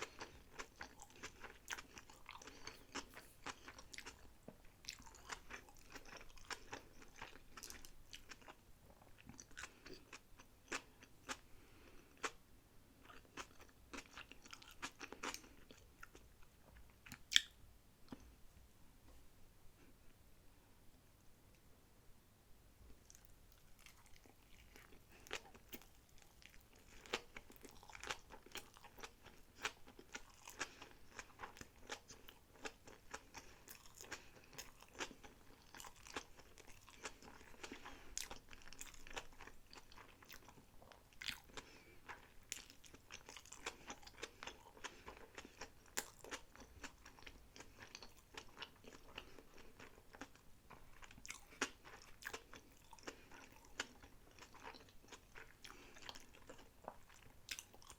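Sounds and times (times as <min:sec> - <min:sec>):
chewing with wet mouth clicks: 0:00.0 - 0:11.4, 0:13.0 - 0:18.3, 0:23.1 - 0:57.9.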